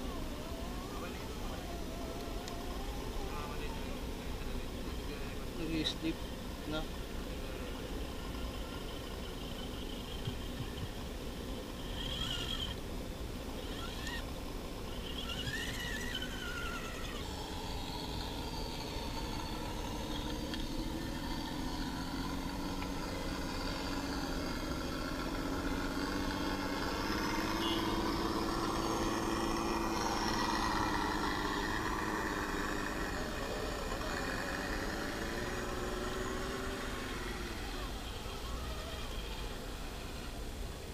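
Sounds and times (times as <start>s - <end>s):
rc truck motors whining: 0.0s - 40.9s.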